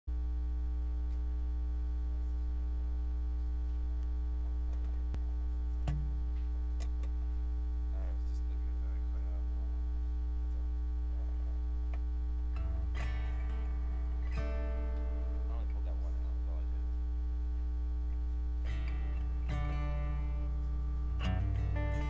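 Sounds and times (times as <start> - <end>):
electrical mains hum: 0.1 - 22.0.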